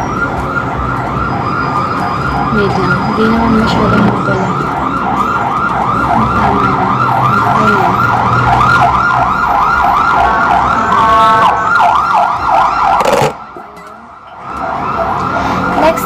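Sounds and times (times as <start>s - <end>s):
electronic siren yelping: 0.0s - 16.0s.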